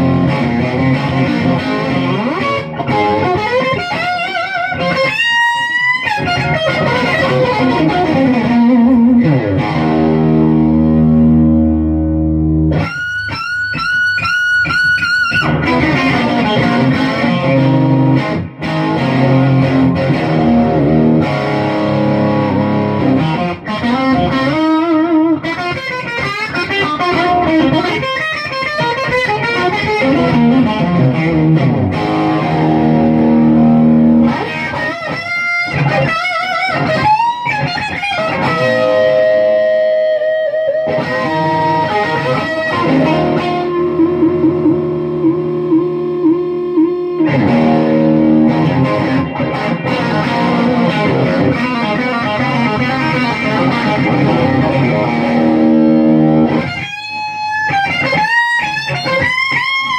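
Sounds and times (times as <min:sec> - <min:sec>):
electric guitar lead lines: 0:00.0 - 0:59.9.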